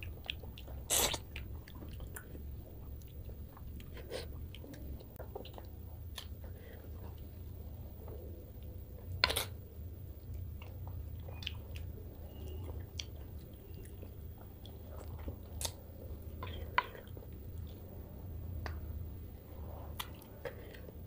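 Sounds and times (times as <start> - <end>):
person chewing and smacking: 0.0 - 9.6, 10.2 - 17.9, 19.8 - 21.0
steady low hum: 0.0 - 21.0.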